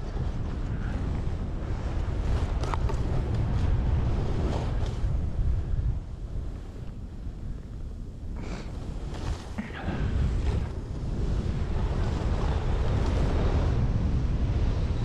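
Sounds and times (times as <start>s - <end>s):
wind buffeting a microphone: 0.0s - 15.0s.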